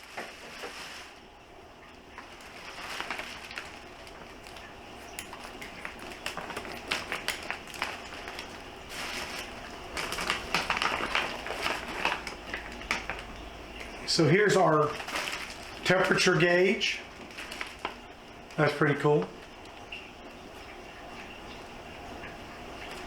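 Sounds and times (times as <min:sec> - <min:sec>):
packaging crinkling: 0:00.0 - 0:21.7.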